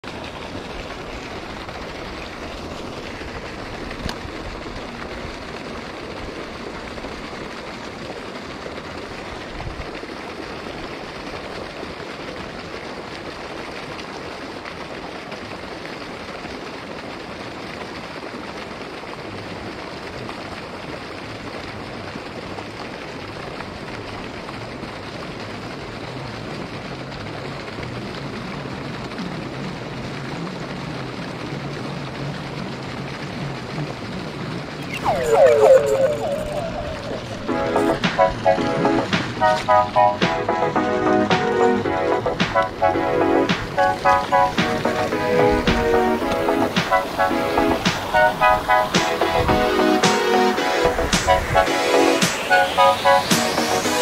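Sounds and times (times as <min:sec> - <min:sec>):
water jet splashing on pond: 0:00.0 - 0:54.0.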